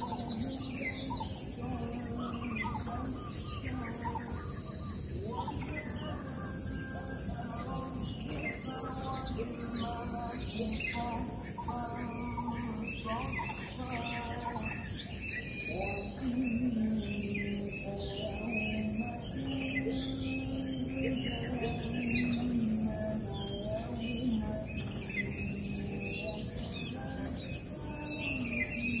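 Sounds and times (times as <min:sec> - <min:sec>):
birds chirping and calling: 0:00.0 - 0:29.0
high insect drone: 0:00.0 - 0:29.0.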